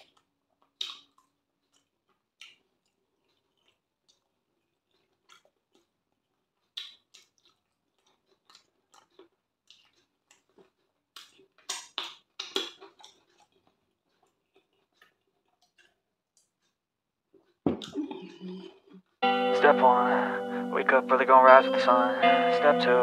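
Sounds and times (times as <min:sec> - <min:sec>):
chewing and wet mouth sounds: 0:00.0 - 0:19.2.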